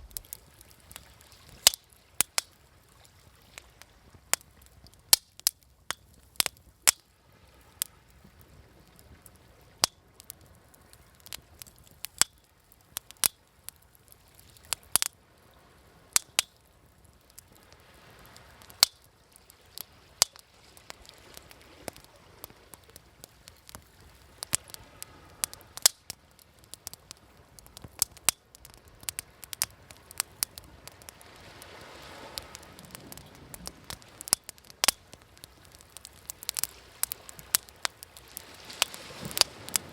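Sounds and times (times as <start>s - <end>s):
campfire crackling and popping: 0.0s - 39.9s
waves washing: 0.0s - 39.9s.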